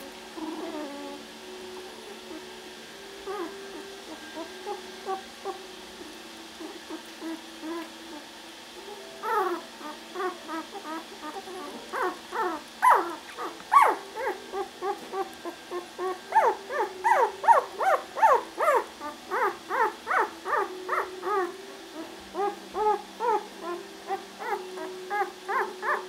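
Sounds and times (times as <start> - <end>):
puppies whimpering and squeaking: 0.0 - 8.3, 9.2 - 26.0.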